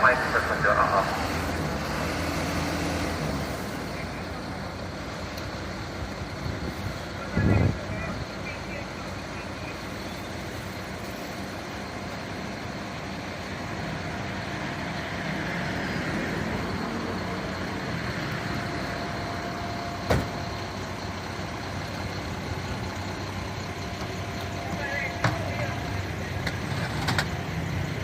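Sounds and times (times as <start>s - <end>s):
fire truck engine idling: 0.0s - 28.0s.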